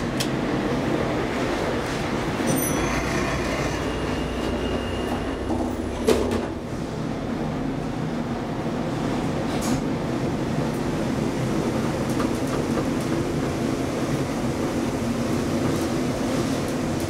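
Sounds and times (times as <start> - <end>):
elevator rumbling and humming: 0.0 - 17.0.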